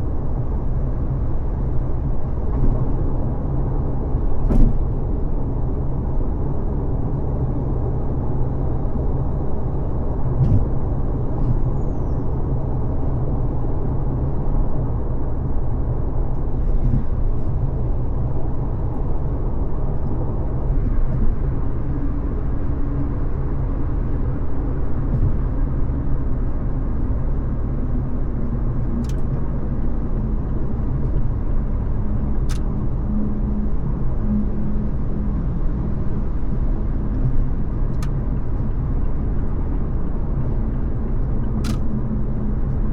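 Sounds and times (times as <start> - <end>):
car driving on a freeway: 0.0 - 42.9.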